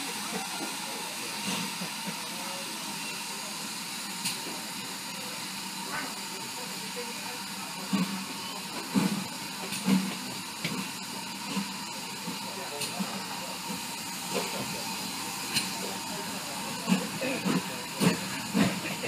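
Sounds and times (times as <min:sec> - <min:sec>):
low steam bursts: 0:00.0 - 0:19.0
steam hissing: 0:00.0 - 0:19.0.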